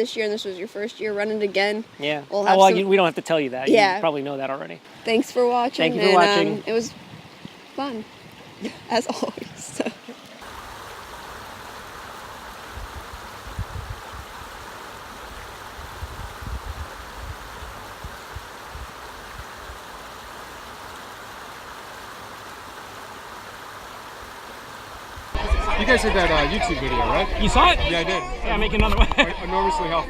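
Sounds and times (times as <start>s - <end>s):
creek water rushing: 0.0s - 30.0s.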